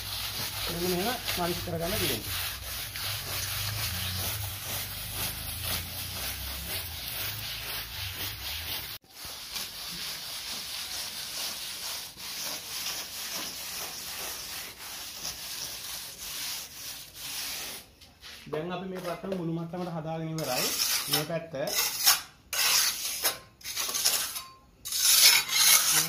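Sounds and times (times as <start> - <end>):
wet sponge scraping plaster: 0.0 - 26.0.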